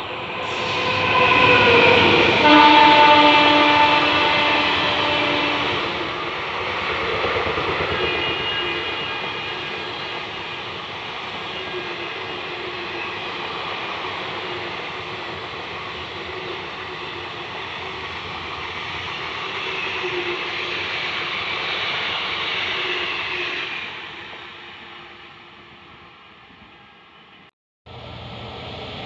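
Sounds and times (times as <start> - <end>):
train passing on rails: 0.0 - 29.0.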